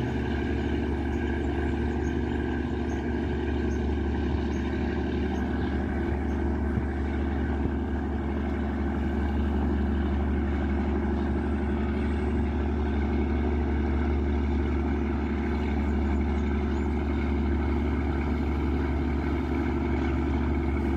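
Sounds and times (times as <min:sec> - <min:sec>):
boat diesel engine droning: 0:00.0 - 0:20.9.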